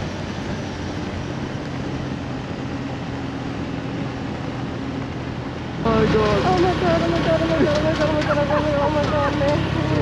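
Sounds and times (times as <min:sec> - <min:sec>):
motorcycle engine hum: 0:00.0 - 0:10.0
wind noise on microphone: 0:00.0 - 0:10.0.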